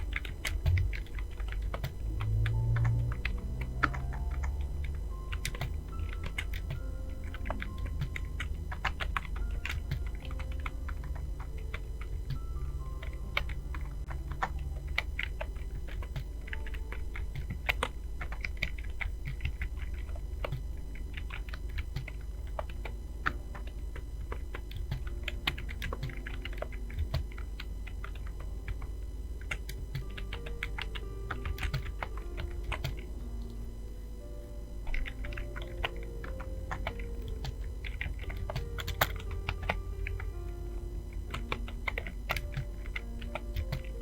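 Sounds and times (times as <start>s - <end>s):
keyboard typing clicks: 0.0s - 33.7s, 34.8s - 44.0s
steady low hum: 0.0s - 44.0s.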